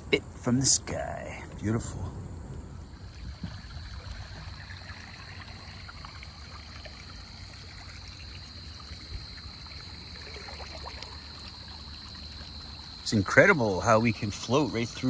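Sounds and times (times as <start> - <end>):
water trickling and dripping: 2.4 - 15.0.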